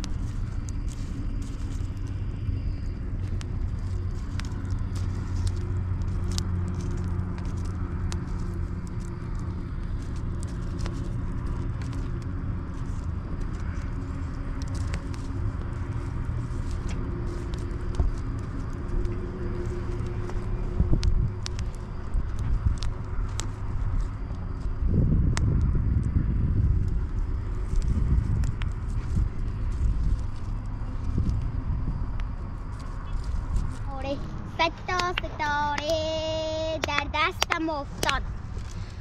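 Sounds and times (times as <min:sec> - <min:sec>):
engine droning: 0:00.0 - 0:39.0.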